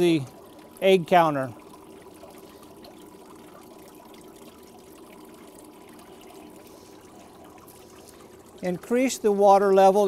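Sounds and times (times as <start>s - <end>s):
water trickling into a strainer: 0.0s - 10.0s.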